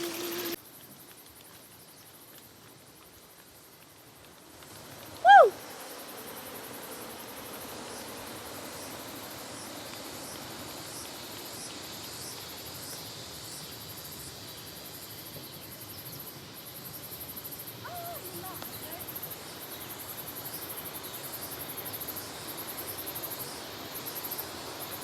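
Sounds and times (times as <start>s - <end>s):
insects chirring: 0.0s - 25.0s
steady background hiss: 0.0s - 25.0s.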